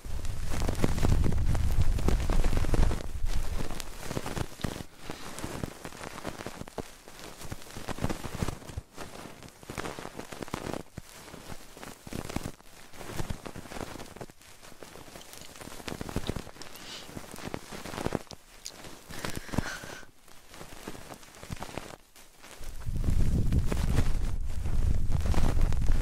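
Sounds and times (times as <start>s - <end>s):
crackly scratching on microphone: 0.0s - 26.0s
rustles: 0.0s - 26.0s.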